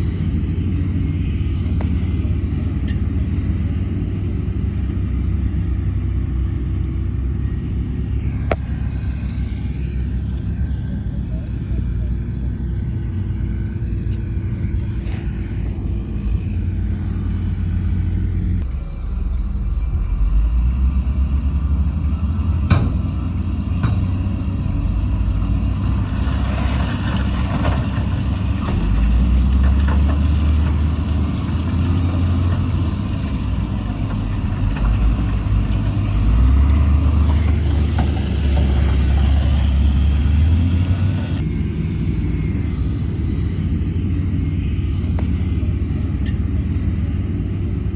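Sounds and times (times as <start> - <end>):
heavy diesel engine rumbling: 0.0 - 47.9.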